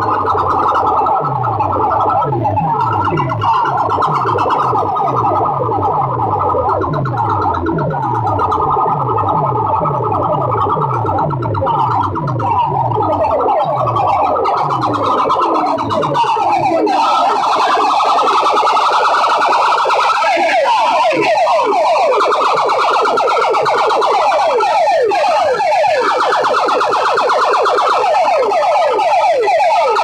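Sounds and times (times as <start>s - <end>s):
pulsing bass: 0.0s - 29.1s
electronic siren sound effect: 0.0s - 30.0s.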